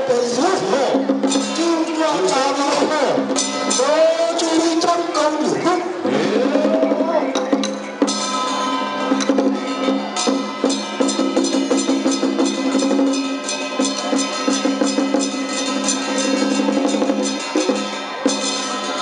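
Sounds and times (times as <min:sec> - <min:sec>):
drums and cymbals: 0:00.0 - 0:19.0.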